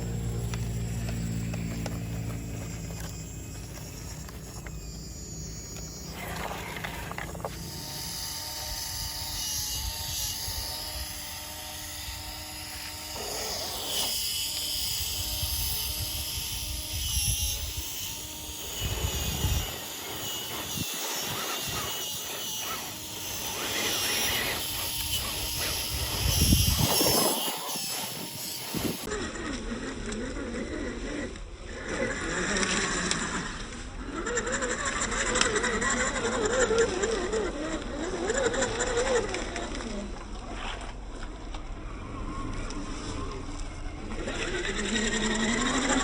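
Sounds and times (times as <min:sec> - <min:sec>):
toy truck electric motors whining: 0:00.0 - 0:46.0.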